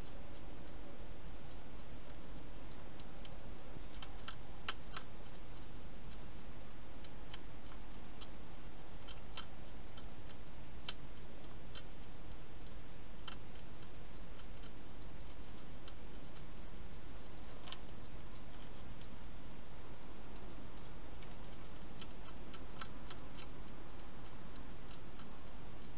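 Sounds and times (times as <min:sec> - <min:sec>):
hedgehog crunching dry food: 0:00.0 - 0:25.9.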